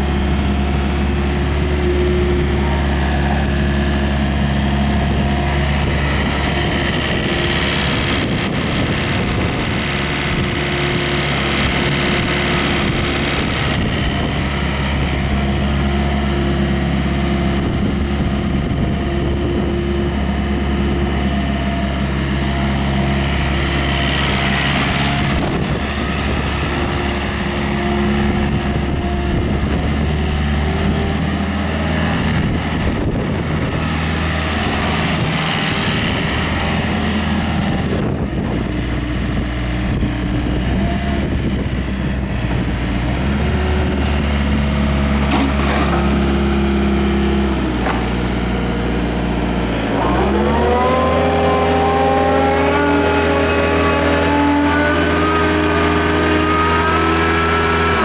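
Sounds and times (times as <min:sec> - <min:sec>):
excavator diesel engine revving: 0:00.0 - 0:58.0.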